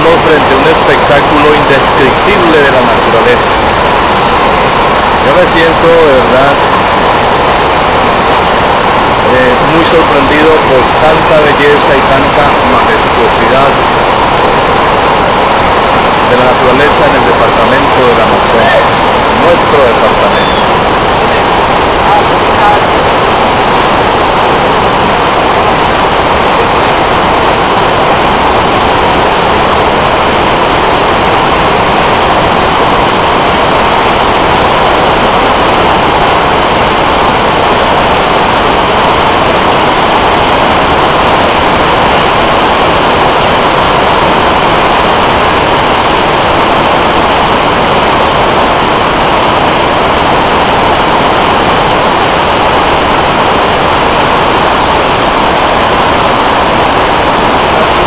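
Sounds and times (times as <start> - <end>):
river rapids roaring: 0.0 - 58.0.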